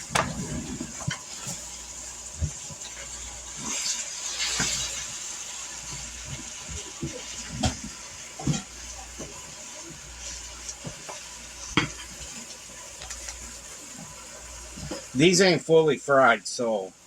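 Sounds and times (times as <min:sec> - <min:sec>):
chicken sizzling in a skillet: 0:00.0 - 0:17.0.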